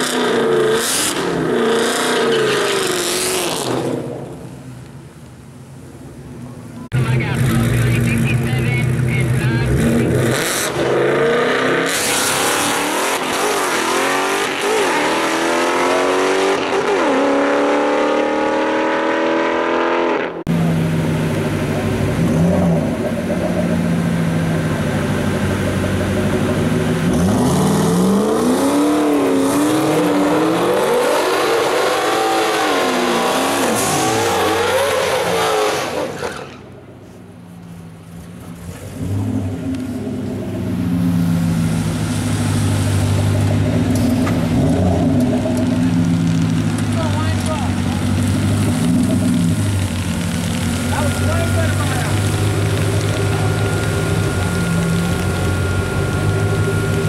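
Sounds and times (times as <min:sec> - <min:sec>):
race car engine revving: 0:00.0 - 0:04.5, 0:06.9 - 0:36.6, 0:38.5 - 0:57.0.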